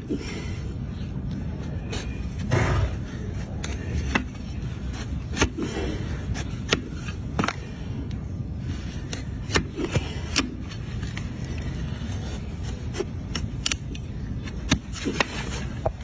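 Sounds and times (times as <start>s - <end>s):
steady low rumble: 0.0s - 14.7s.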